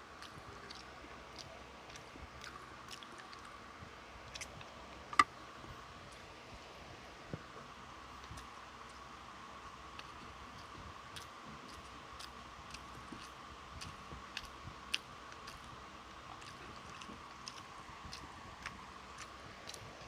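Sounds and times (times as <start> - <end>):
faint steady hum: 0.0 - 20.0
person chewing food: 0.1 - 5.3, 8.2 - 9.1, 9.8 - 20.0.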